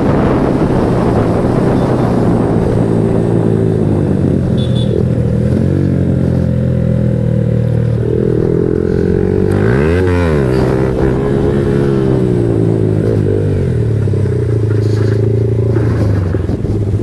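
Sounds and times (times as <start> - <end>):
motorcycle engine revving and idling: 0.0 - 17.0.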